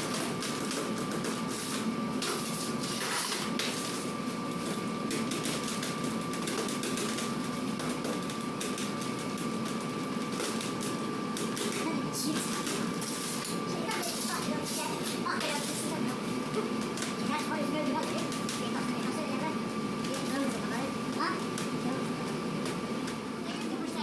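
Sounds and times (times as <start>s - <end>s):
machinery with high whine: 0.0s - 24.0s.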